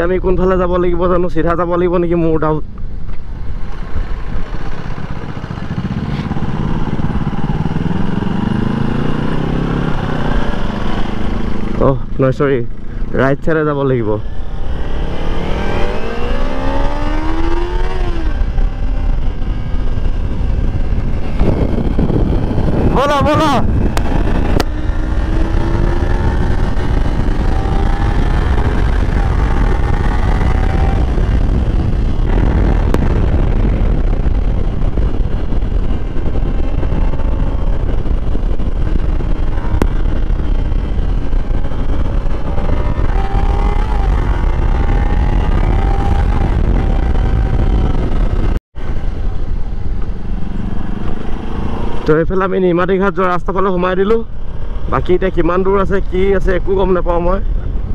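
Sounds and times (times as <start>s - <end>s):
wind and road noise: 0.0s - 57.9s
motorcycle engine revving: 3.3s - 57.9s.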